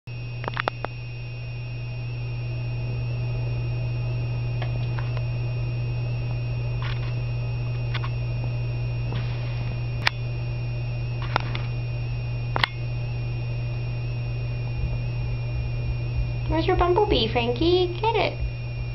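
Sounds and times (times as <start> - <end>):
camcorder hum and whine: 0.1 - 18.9.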